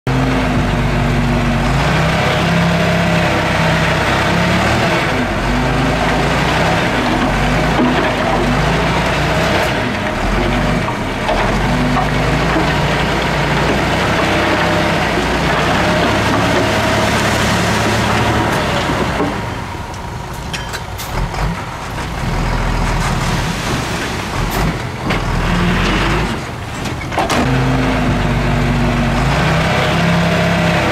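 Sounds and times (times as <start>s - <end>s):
heavy diesel machinery engine: 0.1s - 30.9s.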